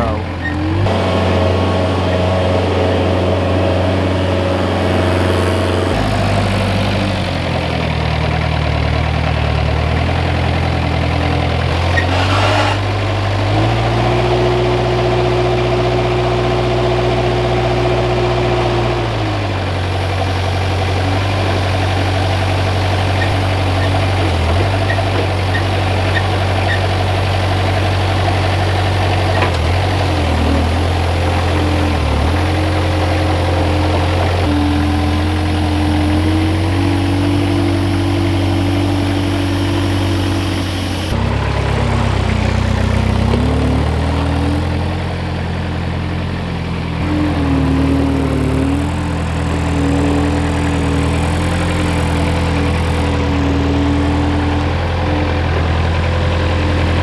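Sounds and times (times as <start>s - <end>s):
forklift engine revving: 0.0s - 57.0s.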